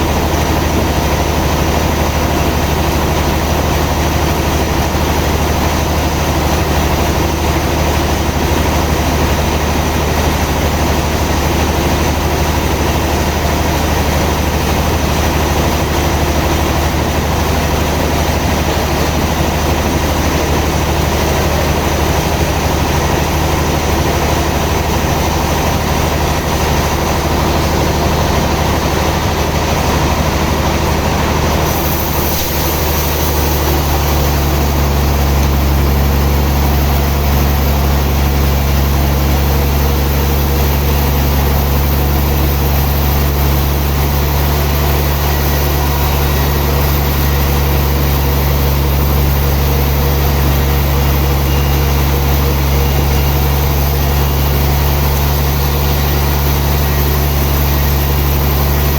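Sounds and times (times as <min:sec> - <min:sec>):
sawmill machinery motor drone: 0:00.0 - 0:58.9.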